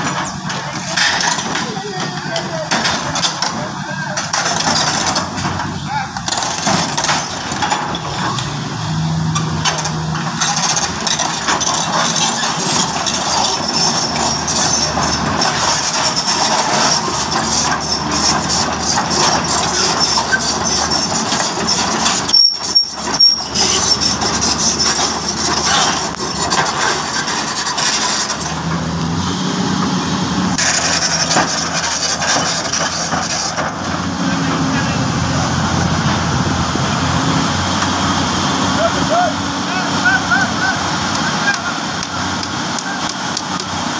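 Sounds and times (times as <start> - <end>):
excavator diesel engine: 0.0 - 43.9
hydraulics working: 0.0 - 43.9.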